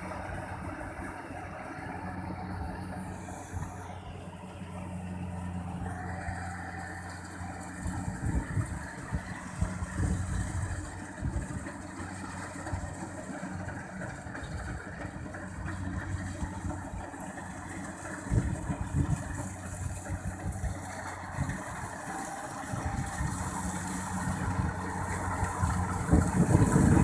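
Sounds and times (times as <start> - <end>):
combine harvester engine running: 0.0 - 27.0.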